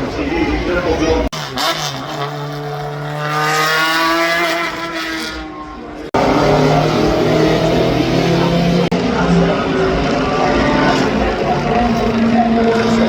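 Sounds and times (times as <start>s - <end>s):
loud car engine: 0.0s - 13.0s
racing car engine rising in pitch: 2.4s - 13.0s.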